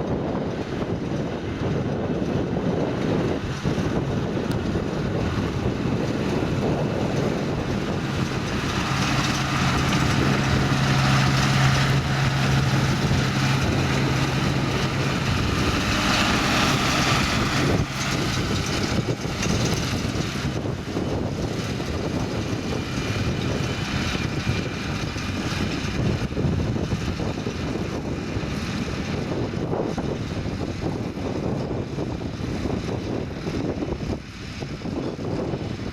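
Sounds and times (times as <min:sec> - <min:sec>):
tractor engine working under load: 0:00.0 - 0:35.9.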